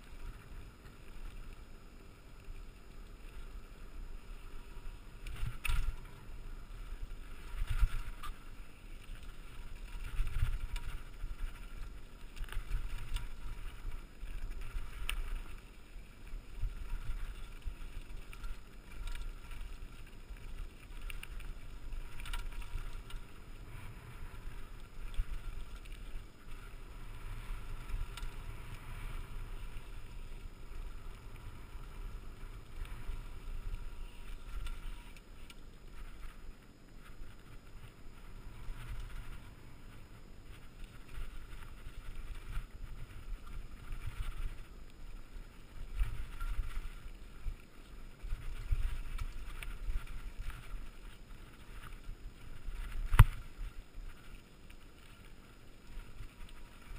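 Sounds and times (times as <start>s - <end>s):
bike rattling: 0.0s - 56.9s
tyres rumbling on rocky dirt: 0.0s - 56.9s.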